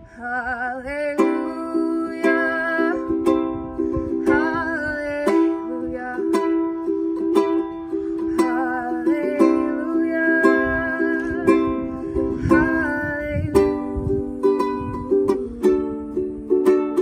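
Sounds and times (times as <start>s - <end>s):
person singing: 0.0s - 17.0s
ukulele strummed chords: 0.5s - 17.0s.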